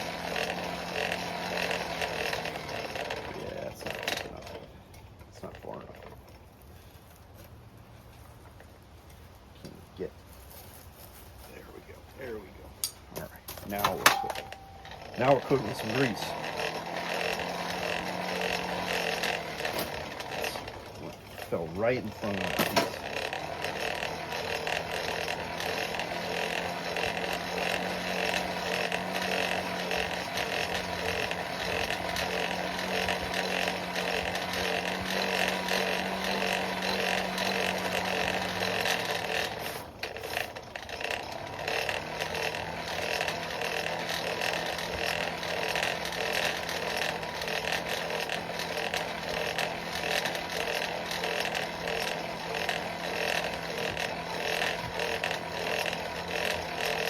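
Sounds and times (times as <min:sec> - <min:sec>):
blower hum: 0:00.0 - 0:08.7, 0:10.8 - 0:57.0.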